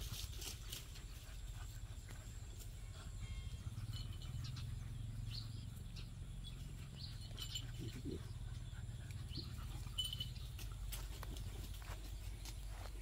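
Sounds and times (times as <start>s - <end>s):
dogs yipping and squeaking: 0.0s - 12.6s
low steady rumble: 0.0s - 13.0s.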